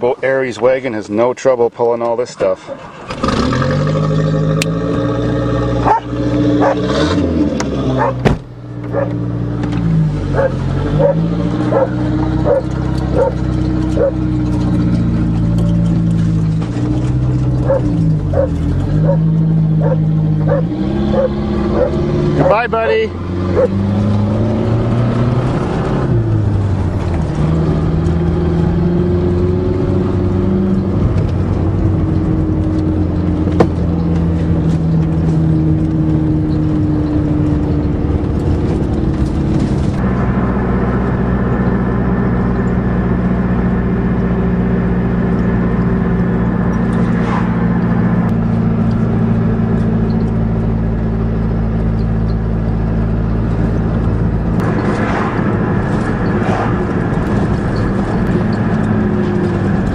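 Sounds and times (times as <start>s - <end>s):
car engine running: 2.0s - 59.9s.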